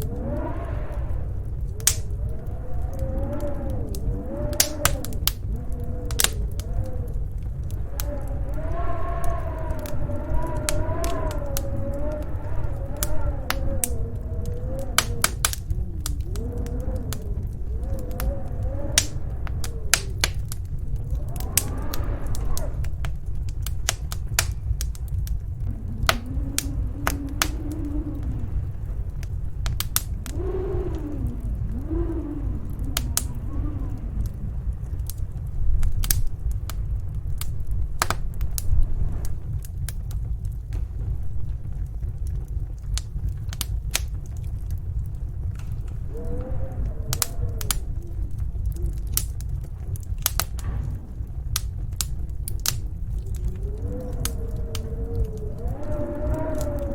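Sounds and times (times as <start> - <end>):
howling storm wind: 0.0 - 56.9
wood fire crackling and popping: 0.0 - 56.9.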